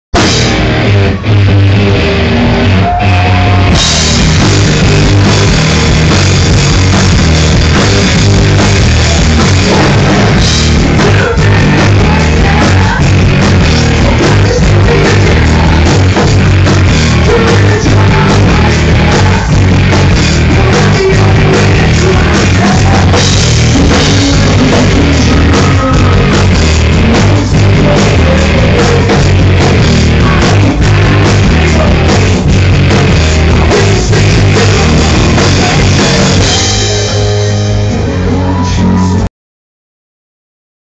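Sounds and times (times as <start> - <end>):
loud live rock band: 0.1 - 39.3.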